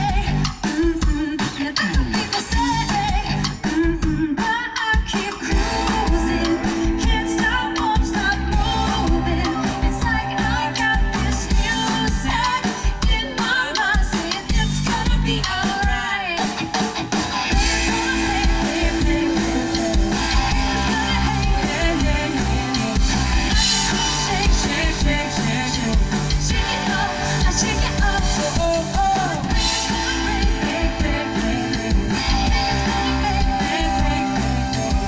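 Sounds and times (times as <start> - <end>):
bass guitar: 0.0 - 0.7, 2.5 - 4.3, 5.4 - 13.4, 14.1 - 15.8, 16.6 - 35.0
person singing: 0.0 - 16.9, 17.5 - 35.0
drum kit: 0.0 - 35.0
electric guitar: 5.2 - 35.0.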